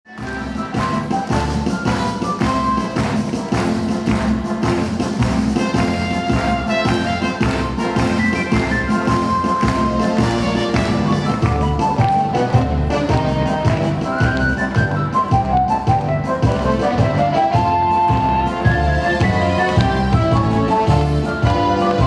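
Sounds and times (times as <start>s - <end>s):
lively instrumental music: 0.0s - 22.0s.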